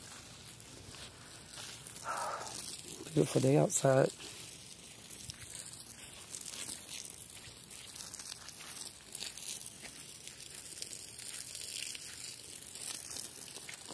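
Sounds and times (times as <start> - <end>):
footsteps on dry pine needles: 0.0 - 13.9.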